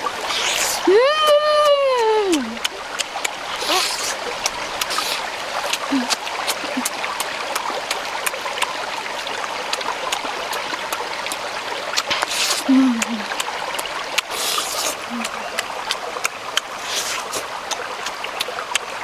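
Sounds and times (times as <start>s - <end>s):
stream running over rocks: 0.0s - 19.0s
chewing clicks: 1.7s - 11.4s, 12.0s - 19.0s.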